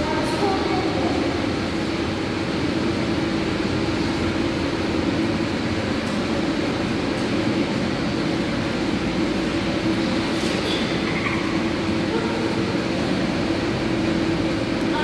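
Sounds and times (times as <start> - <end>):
rumbling air handling machinery: 0.0 - 15.0.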